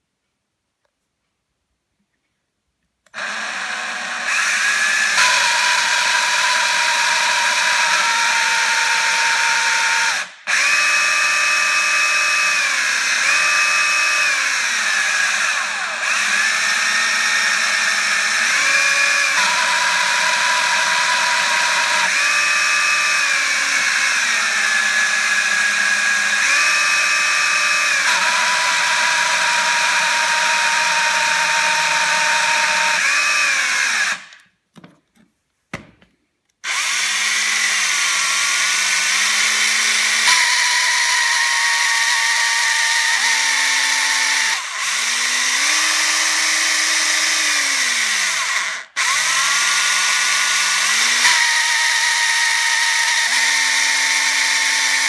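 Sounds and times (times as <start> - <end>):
cordless hammer drill running: 3.1 - 34.4, 36.6 - 55.0.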